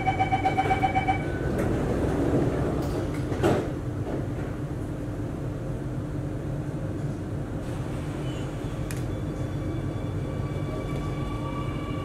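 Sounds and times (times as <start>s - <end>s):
standing train hum: 0.0s - 12.0s.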